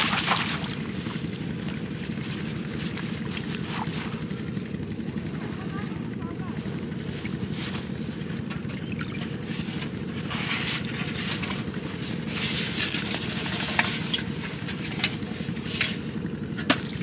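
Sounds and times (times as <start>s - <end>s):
water sloshing and splashing: 0.0s - 4.5s, 6.6s - 17.0s
steady low hum: 0.0s - 17.0s.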